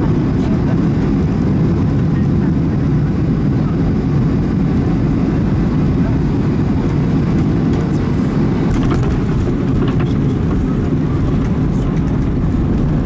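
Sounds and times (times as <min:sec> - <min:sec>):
airplane landing rumble: 0:00.0 - 0:13.0.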